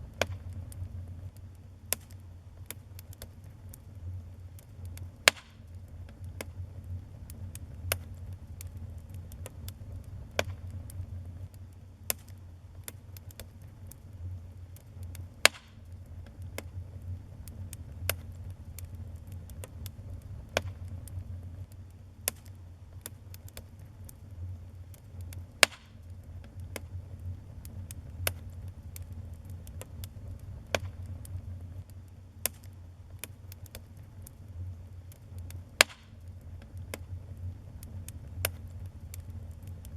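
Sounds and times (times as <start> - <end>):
loud fire cracks: 0.0 - 39.9
steady low rumble: 0.0 - 39.9
wood fire crackling: 0.0 - 39.9.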